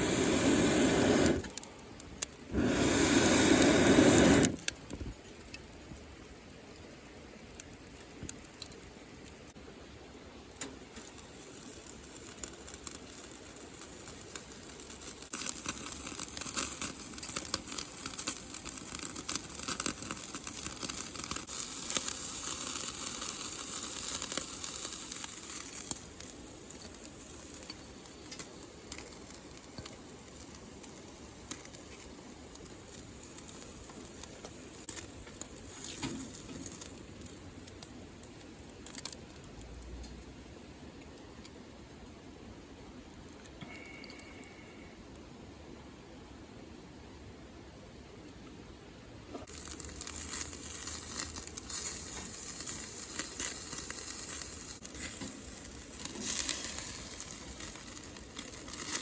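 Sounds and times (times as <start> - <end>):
campfire crackling and popping: 0.0 - 45.9, 49.2 - 59.0.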